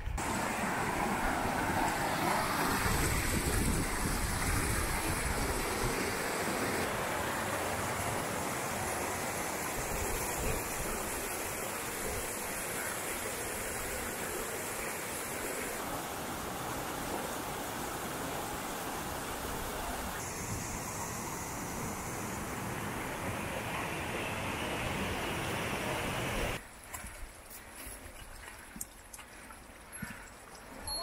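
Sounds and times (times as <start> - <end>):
stream rushing over boulders: 0.2 - 31.0.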